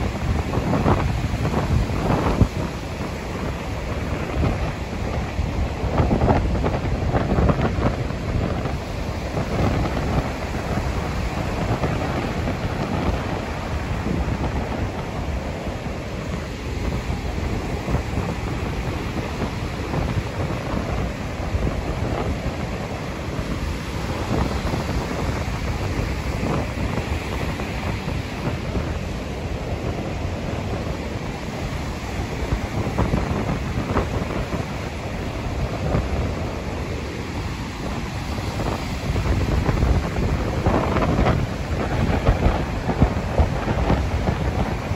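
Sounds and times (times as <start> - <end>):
surf breaking on beach: 0.0 - 44.9
wind buffeting microphone: 0.0 - 44.9.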